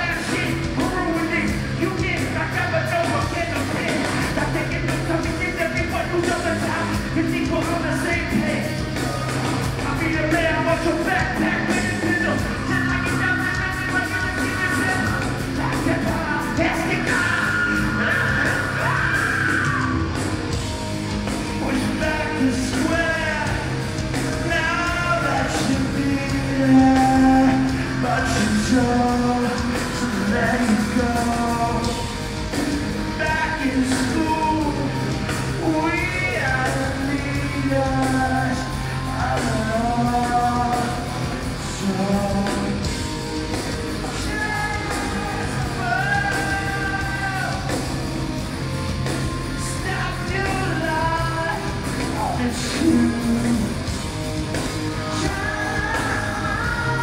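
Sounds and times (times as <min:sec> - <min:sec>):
person singing and shouting: 0:00.0 - 0:20.4, 0:21.5 - 0:43.2, 0:43.8 - 0:48.2, 0:49.5 - 0:53.9, 0:54.9 - 0:57.0
live metal band playing: 0:00.0 - 0:57.0.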